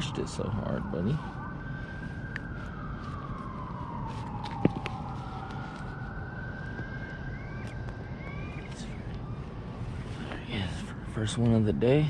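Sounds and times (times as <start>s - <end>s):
distant siren wailing: 0.0s - 11.7s.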